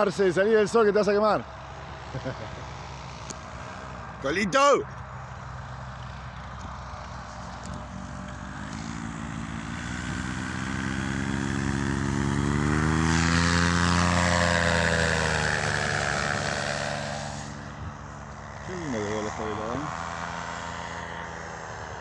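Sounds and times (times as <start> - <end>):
paramotor engine and propeller droning: 0.0 - 22.0.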